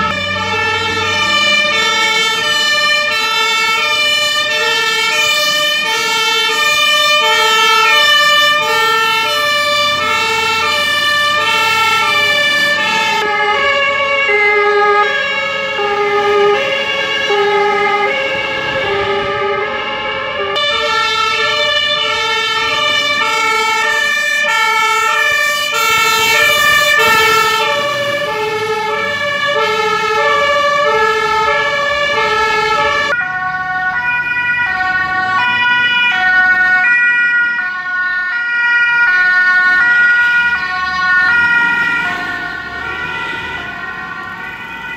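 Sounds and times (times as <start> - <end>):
two-tone fire engine sirens: 0.0 - 44.9.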